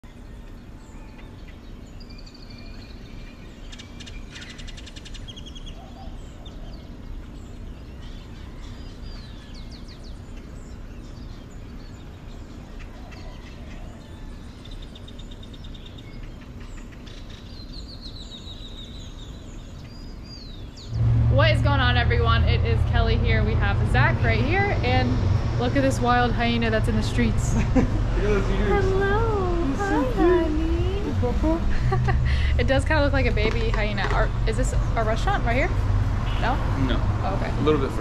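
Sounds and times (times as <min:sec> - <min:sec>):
birds chirping and trilling: 0:00.0 - 0:38.0
low background noise: 0:00.0 - 0:38.0.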